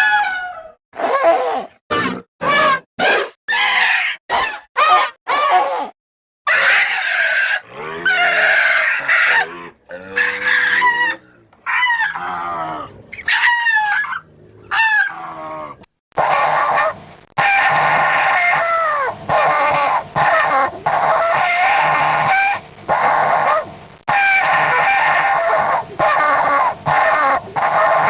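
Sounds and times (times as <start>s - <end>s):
creature squawking cries: 0.0s - 5.9s, 6.5s - 28.0s.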